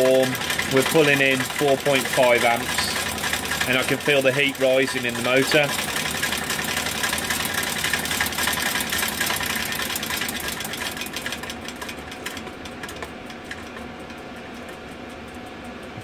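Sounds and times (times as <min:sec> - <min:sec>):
motor driving fret saw rattling: 0:00.0 - 0:16.0.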